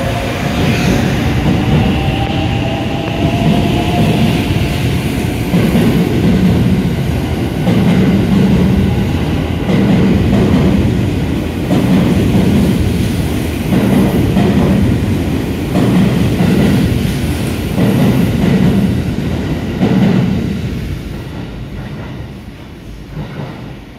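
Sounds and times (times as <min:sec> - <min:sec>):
electric train passing: 0:00.0 - 0:23.2
train wheels clattering: 0:00.0 - 0:23.9.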